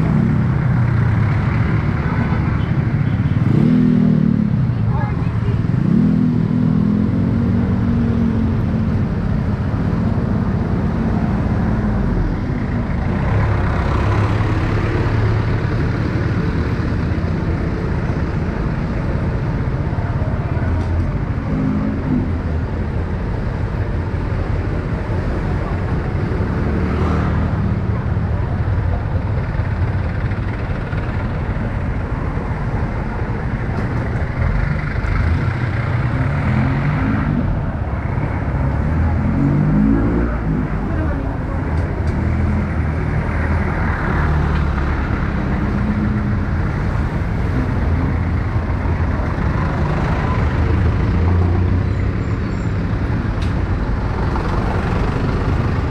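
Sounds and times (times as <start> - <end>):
passing vehicles road noise: 0.0 - 55.9.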